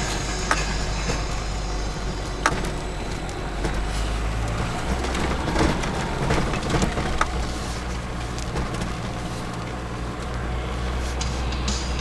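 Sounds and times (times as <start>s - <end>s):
low engine drone: 0.0s - 12.0s
tyres rushing through snow: 0.0s - 12.0s.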